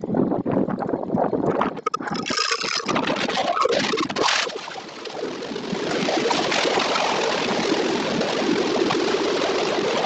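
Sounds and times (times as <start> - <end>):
storm wind on microphone: 0.0 - 10.0
heavy rain: 1.9 - 10.0.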